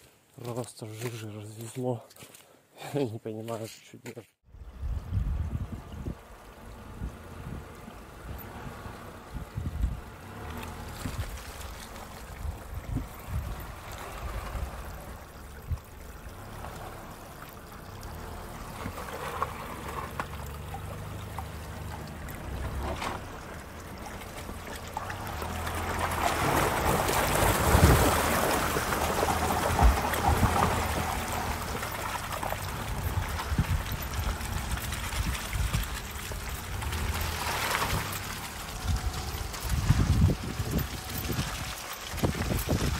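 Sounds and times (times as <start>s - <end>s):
car engine humming: 4.6s - 42.9s
wheels splashing through mud: 4.6s - 42.9s.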